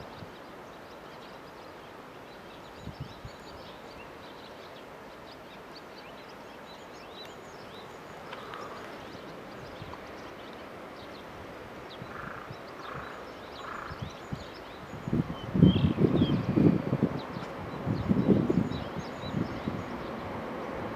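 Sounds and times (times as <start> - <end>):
birds chirping and twittering: 0.0 - 20.9
outdoor background hiss: 0.0 - 20.9.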